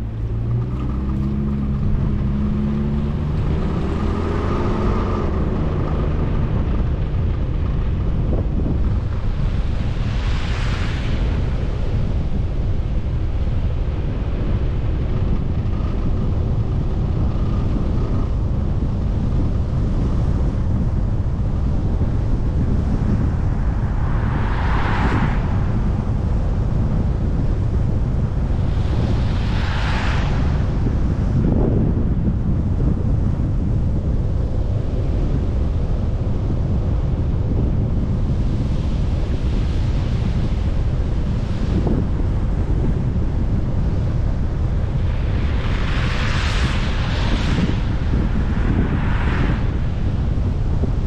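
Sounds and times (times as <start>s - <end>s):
vehicle road and wind rumble: 0.0s - 51.0s.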